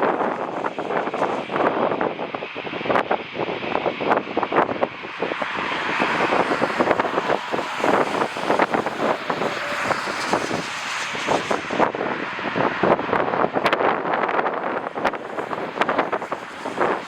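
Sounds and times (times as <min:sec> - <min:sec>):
jet engine noise: 0:00.0 - 0:17.0
wind buffeting microphone: 0:00.0 - 0:17.0.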